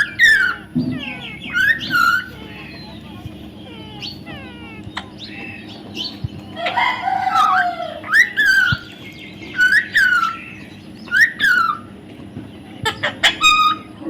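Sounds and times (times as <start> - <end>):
parrot calling: 0.0 - 14.0.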